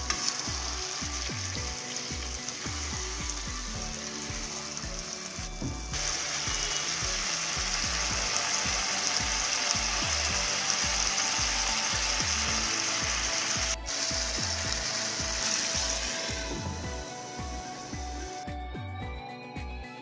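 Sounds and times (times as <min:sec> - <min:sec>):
food sizzling in a wok: 0:00.0 - 0:18.4
background music: 0:00.0 - 0:20.0.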